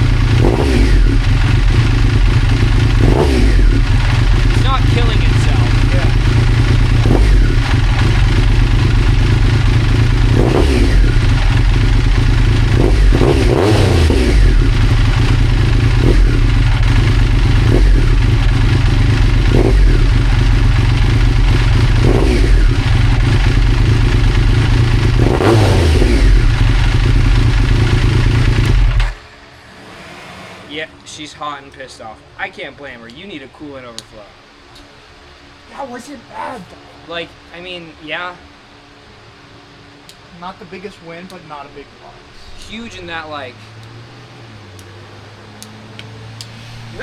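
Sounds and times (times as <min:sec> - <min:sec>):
motorcycle engine idling and revving: 0:00.0 - 0:31.5, 0:37.0 - 0:47.0.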